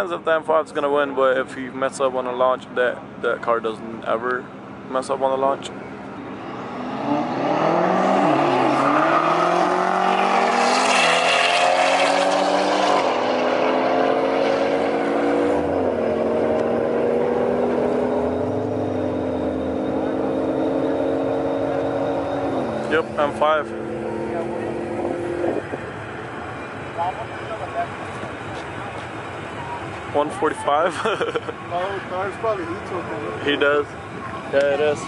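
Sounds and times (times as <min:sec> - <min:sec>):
cars accelerating hard: 0:06.2 - 0:35.0.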